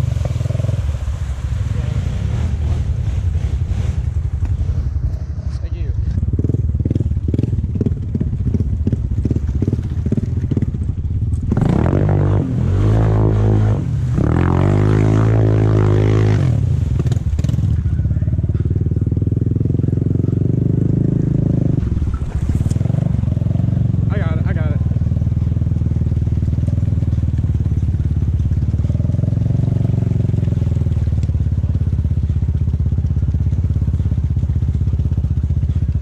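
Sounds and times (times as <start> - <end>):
atv engine revving: 0.0 - 36.0
wheels churning water: 0.0 - 36.0.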